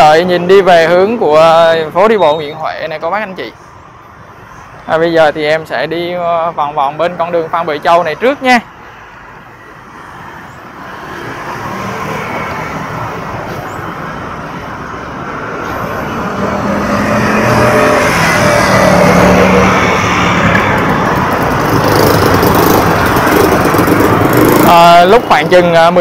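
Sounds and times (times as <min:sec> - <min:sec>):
scooters and cars driving past: 0:04.2 - 0:26.0.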